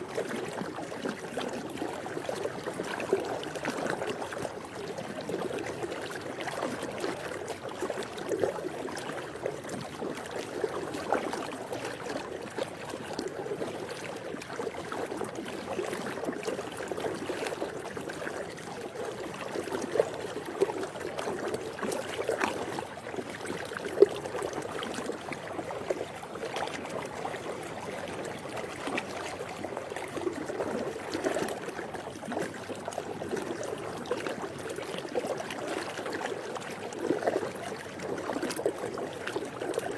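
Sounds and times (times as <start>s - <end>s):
pool water trickling and lapping: 0.0s - 39.9s.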